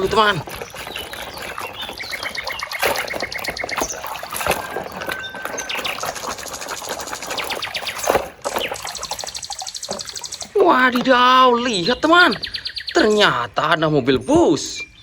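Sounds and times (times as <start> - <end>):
water sloshing and splashing: 0.0 - 13.1.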